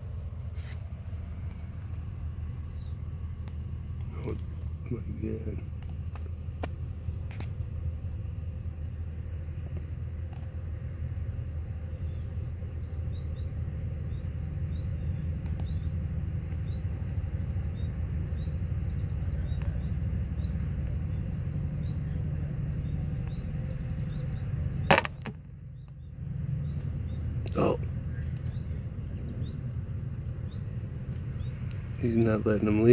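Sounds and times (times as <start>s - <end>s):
high-pitched insect trill: 0.0s - 32.9s.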